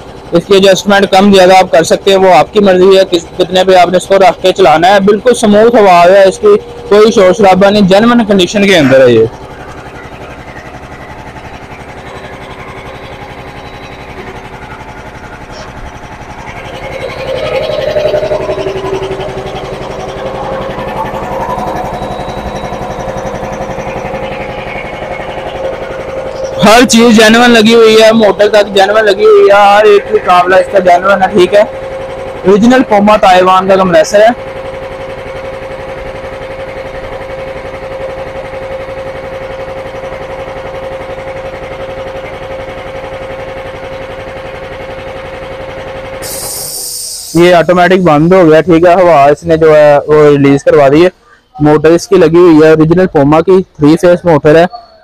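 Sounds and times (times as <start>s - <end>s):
electric motor hum: 0.0s - 51.1s
air compressor pump pulsing: 0.0s - 55.0s.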